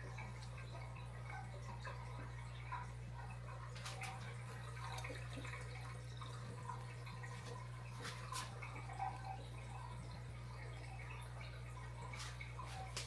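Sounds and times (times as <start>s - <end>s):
small water splashes: 0.0s - 13.0s
water dripping and trickling: 0.0s - 13.0s.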